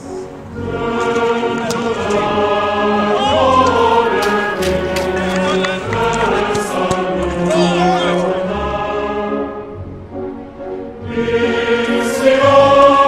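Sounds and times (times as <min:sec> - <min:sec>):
choir-like voices holding chords: 0:00.0 - 0:13.0.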